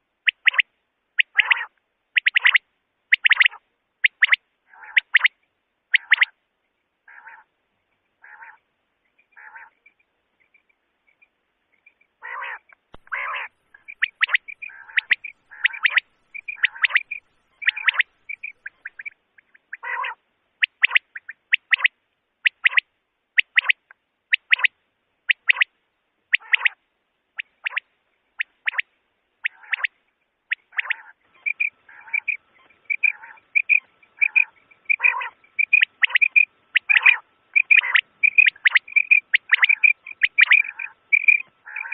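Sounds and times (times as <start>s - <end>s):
quail calling: 0.2s - 6.4s, 7.1s - 7.6s, 8.2s - 10.7s, 11.8s - 25.7s, 26.3s - 26.8s, 27.4s - 41.9s.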